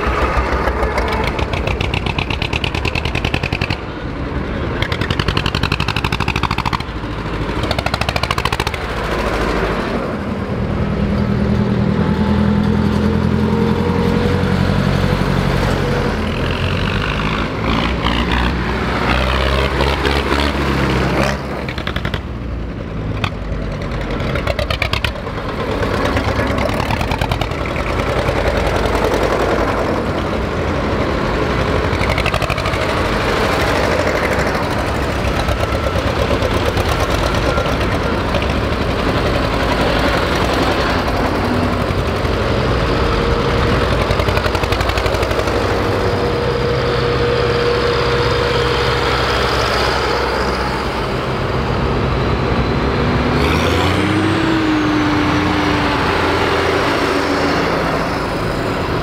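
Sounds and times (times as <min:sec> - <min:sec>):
diesel tractor engines chugging: 0:00.0 - 0:59.0.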